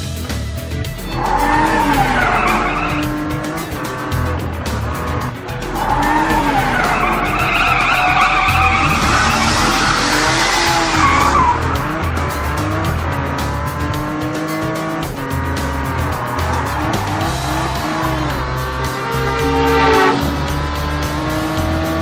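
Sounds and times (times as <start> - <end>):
car engine noise: 0.0 - 22.0
music with steady bass beat: 0.0 - 22.0
tyres screeching and skidding: 0.3 - 22.0.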